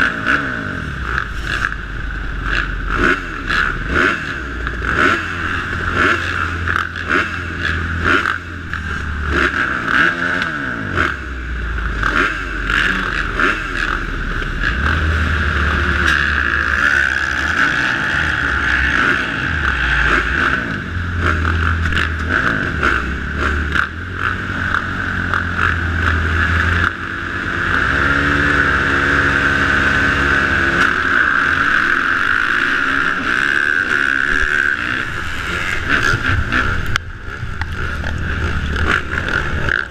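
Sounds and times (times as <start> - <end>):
dirt bike accelerating at high revs: 0.0 - 39.9
dirt bike engines revving: 0.0 - 39.9.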